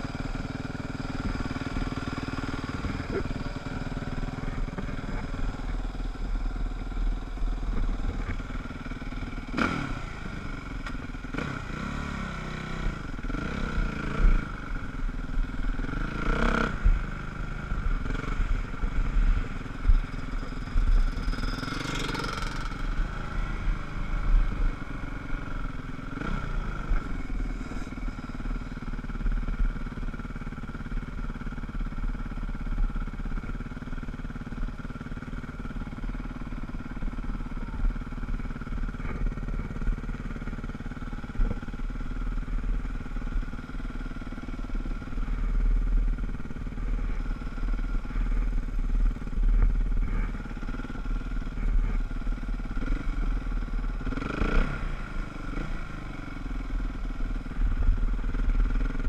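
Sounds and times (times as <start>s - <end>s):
dirt bike engine at low revs: 0.0s - 59.0s.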